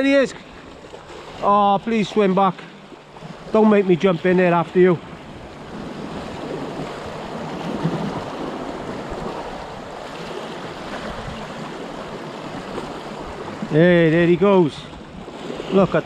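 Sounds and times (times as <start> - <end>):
sea water surging against rocks: 0.0 - 16.0.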